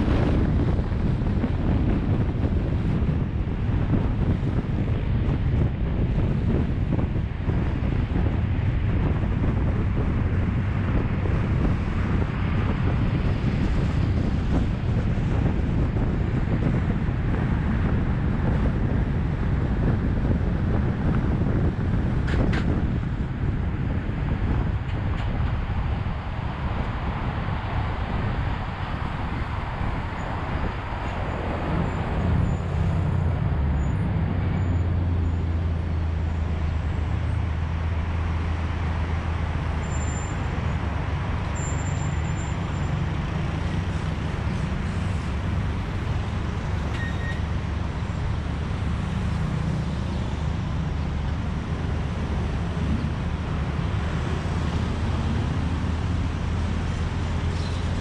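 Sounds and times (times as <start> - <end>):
traffic engine drone: 0.0 - 58.0
tyre and road noise: 0.0 - 58.0.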